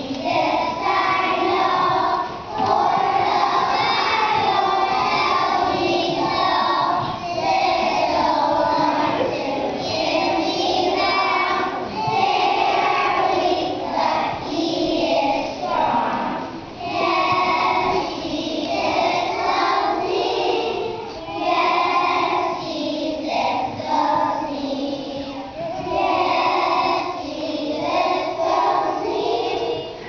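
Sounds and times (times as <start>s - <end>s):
young children singing: 0.0s - 30.0s.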